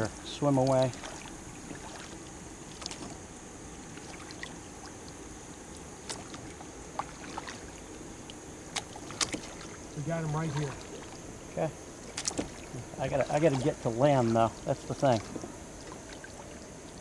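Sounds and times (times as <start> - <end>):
river water around a boat: 0.0 - 17.0.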